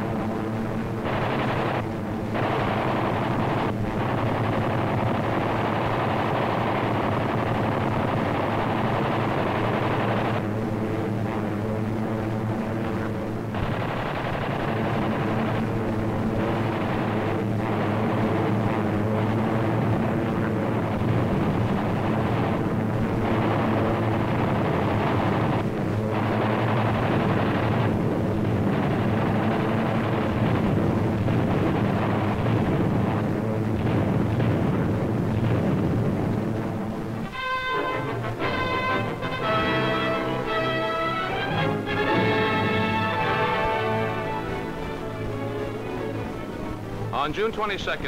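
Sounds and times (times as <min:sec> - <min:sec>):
propeller aircraft engines droning: 0:00.0 - 0:48.0.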